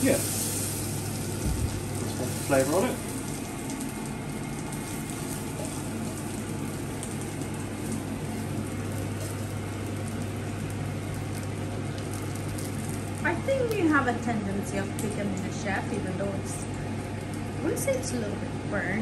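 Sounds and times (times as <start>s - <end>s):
fat and garlic sizzling in pan: 0.0s - 18.9s
low steady hum: 0.0s - 19.0s.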